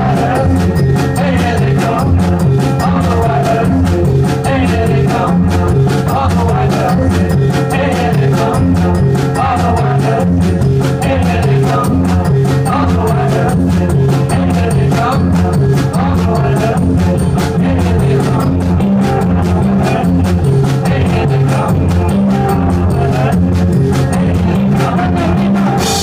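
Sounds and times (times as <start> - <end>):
drum kit beat: 0.0 - 26.0
strummed electric guitar: 0.0 - 26.0.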